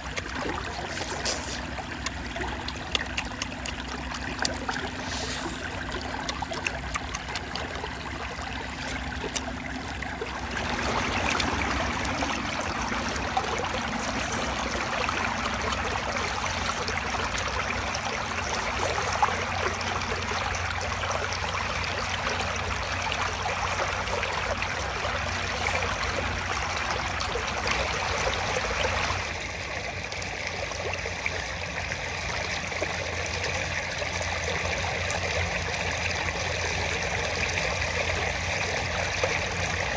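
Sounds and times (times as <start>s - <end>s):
floodwater rushing and trickling: 0.0s - 39.9s.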